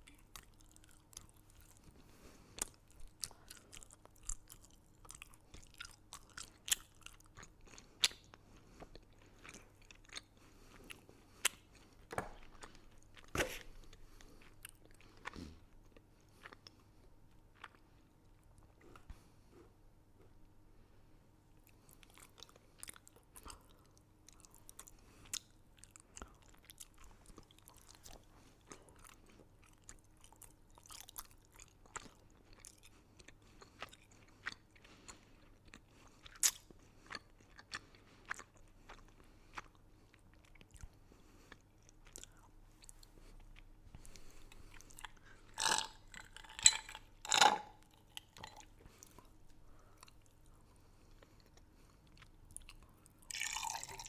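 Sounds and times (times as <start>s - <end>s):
chewing and crunching candy: 0.0s - 20.3s, 21.5s - 54.0s.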